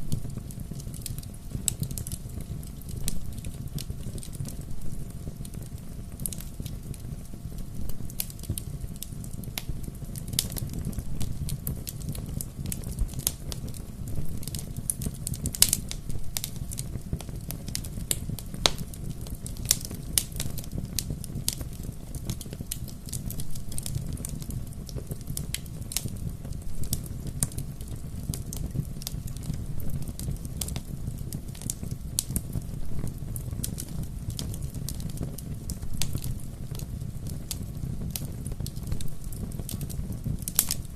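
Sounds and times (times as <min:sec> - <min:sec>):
fire crackles and pops: 0:00.0 - 0:40.9
wood fire burning: 0:00.0 - 0:40.9.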